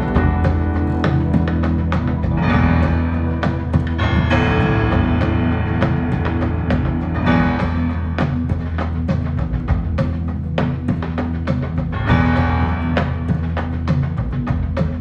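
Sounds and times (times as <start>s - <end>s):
recorded music through amplifier: 0.0s - 15.0s.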